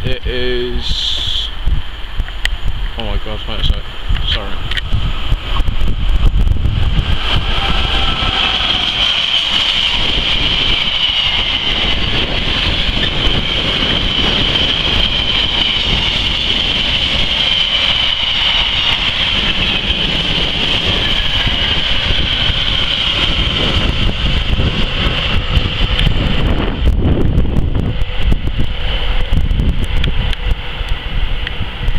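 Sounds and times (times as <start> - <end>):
high whine: 0.0 - 31.9
train rumbling past: 0.0 - 31.9.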